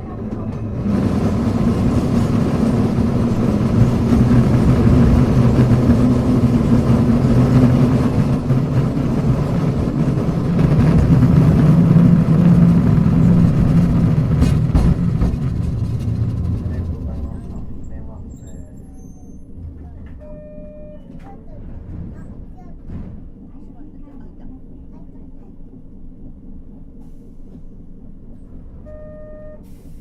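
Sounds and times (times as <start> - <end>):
tram motor and gear hum: 0.0 - 30.0
wheels rumbling on rails: 0.0 - 30.0.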